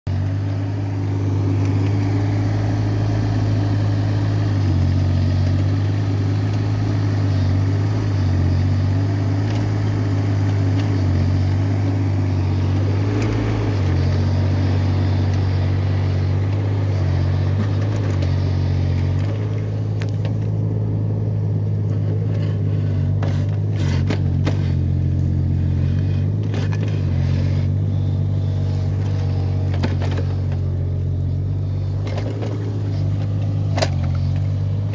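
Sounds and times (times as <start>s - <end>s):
excavator engine droning: 0.0s - 34.9s.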